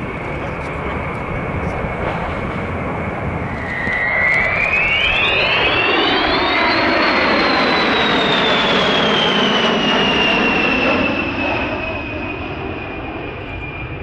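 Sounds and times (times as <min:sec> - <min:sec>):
high turbine whine: 0:00.0 - 0:14.0
jet engines rushing overhead: 0:00.0 - 0:14.0.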